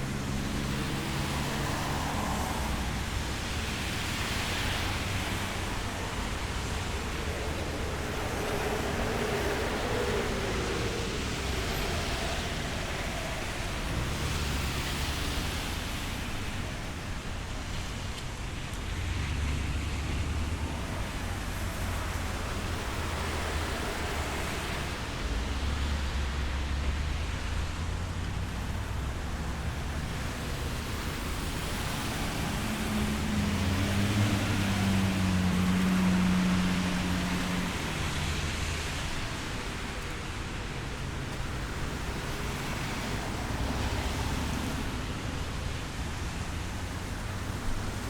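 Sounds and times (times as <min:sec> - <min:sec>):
nearby vehicle engine hum: 0:00.0 - 0:48.0
vehicles passing: 0:00.0 - 0:48.0.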